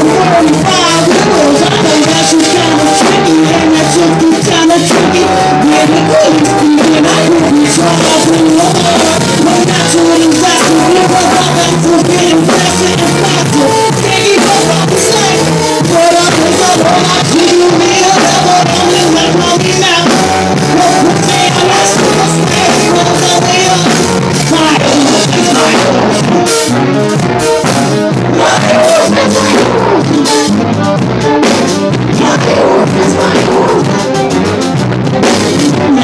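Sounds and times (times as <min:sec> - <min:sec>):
drum kit beat: 0:00.0 - 0:36.0
rock band playing: 0:00.0 - 0:36.0.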